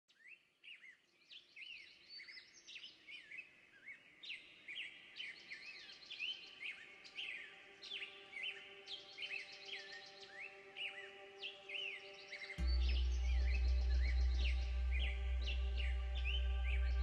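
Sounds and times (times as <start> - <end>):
birds chirping: 1.4 - 17.0.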